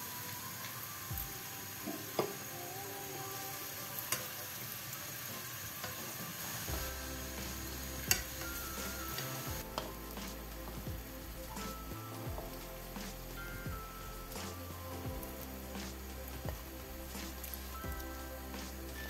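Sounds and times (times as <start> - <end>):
food frying in oil: 0.0 - 19.0.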